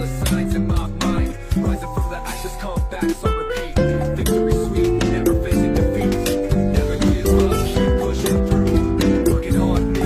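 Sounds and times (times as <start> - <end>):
song with plucked guitar: 0.0 - 10.0
steady beat: 0.0 - 10.0.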